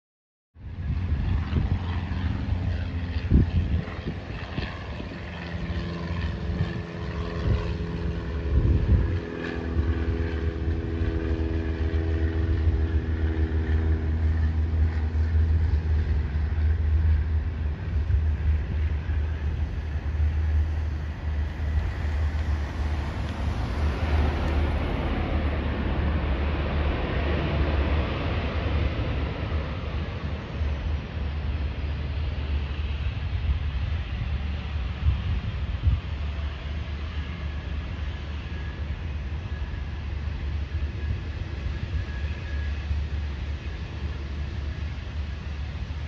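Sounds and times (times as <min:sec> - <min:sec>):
jet engines rumbling: 0:00.6 - 0:46.0
rushing engine noise: 0:00.6 - 0:46.0
steady engine tones: 0:00.6 - 0:46.0.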